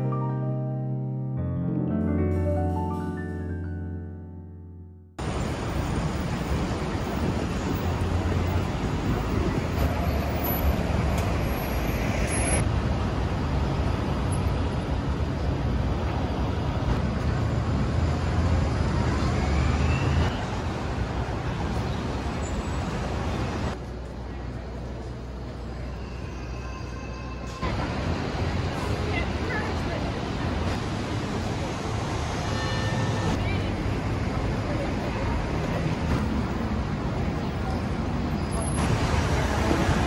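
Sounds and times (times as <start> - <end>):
traffic road noise: 5.2 - 40.0.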